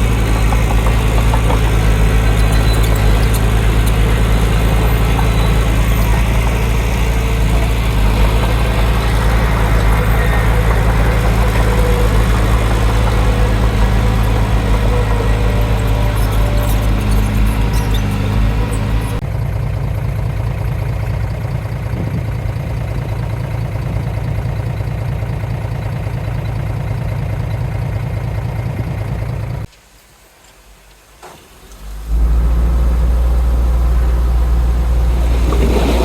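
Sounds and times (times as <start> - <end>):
heavy machinery diesel engine running: 0.0 - 29.7, 31.9 - 36.0.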